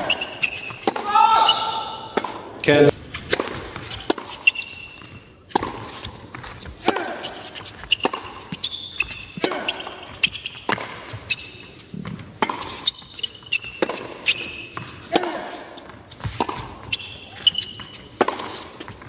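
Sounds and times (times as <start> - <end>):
shoes squeaking on court: 0.0 - 19.0.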